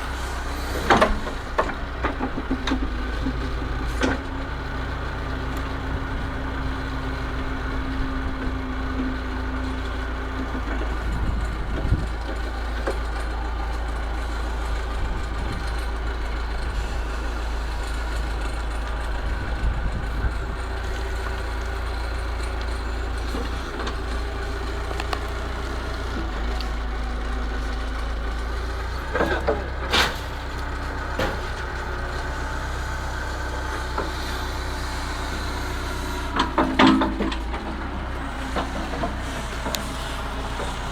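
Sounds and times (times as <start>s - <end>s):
backhoe diesel engine running: 0.0s - 40.9s.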